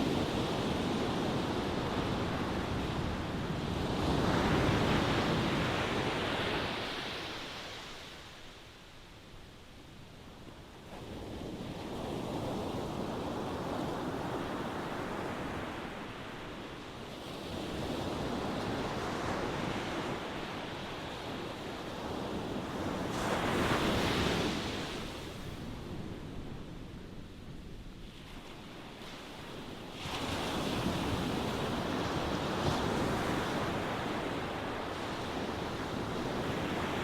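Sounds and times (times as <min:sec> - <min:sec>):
ocean waves breaking on shore: 0:00.0 - 0:09.2, 0:10.3 - 0:37.0.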